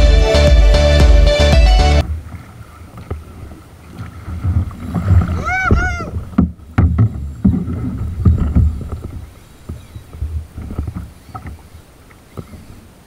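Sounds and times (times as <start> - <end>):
water splashing against kayak: 2.0 - 13.0.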